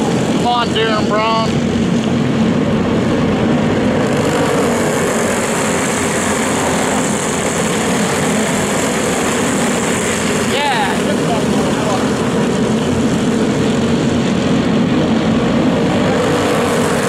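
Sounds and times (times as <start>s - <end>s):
go-kart engines droning: 0.0s - 17.0s.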